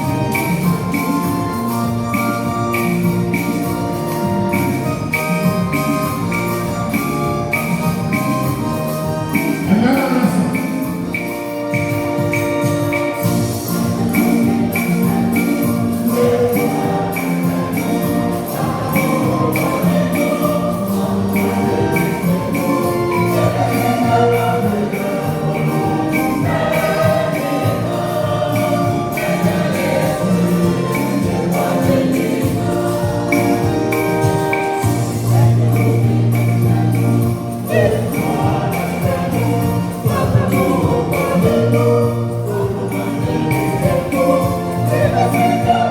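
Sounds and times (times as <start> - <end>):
instruments with steady beat: 0.0 - 45.9
voices singing church music: 0.0 - 45.9.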